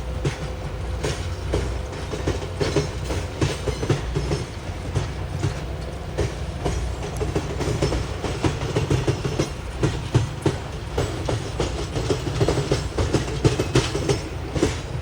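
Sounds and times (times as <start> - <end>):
railroad cars rumbling: 0.0 - 15.0
wheels clicking over rail joints: 0.0 - 15.0.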